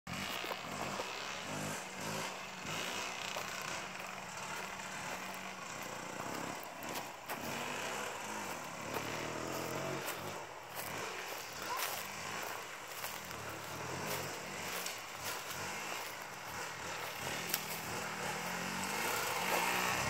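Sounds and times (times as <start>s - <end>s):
dirt bike engine revving: 0.1s - 20.0s.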